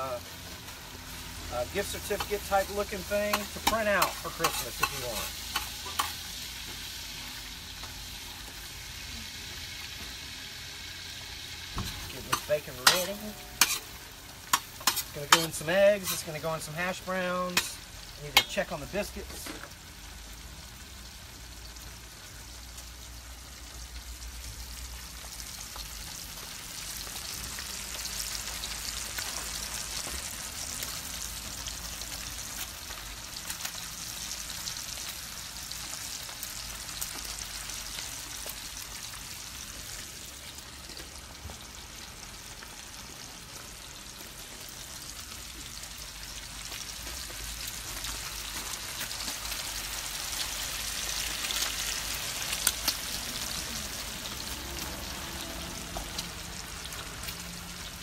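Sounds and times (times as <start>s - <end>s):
bacon sizzling in a pan: 0.0s - 58.0s.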